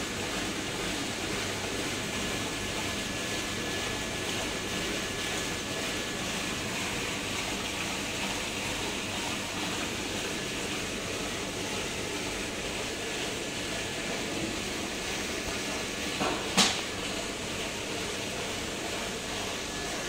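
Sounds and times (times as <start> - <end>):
water rushing through filter: 0.0 - 20.0.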